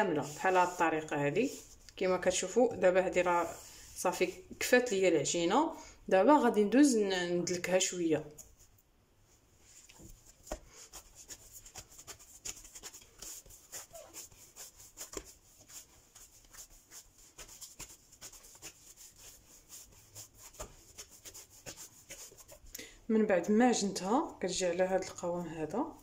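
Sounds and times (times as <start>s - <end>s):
hands kneading dough in a bowl: 0.0s - 5.5s, 9.6s - 26.0s.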